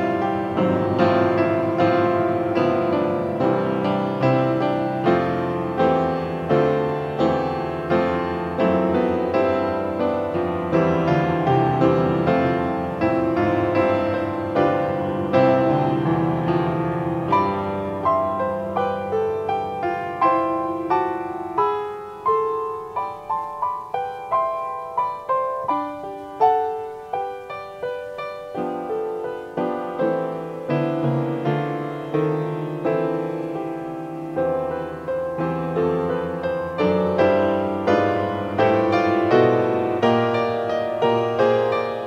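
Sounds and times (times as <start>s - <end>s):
solo piano: 0.0s - 42.0s.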